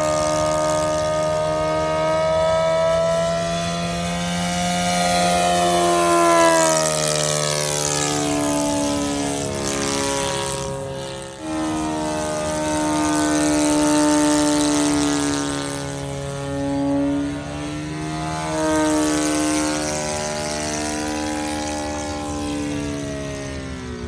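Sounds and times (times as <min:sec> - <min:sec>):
model airplane engine flying past: 0:00.0 - 0:24.0.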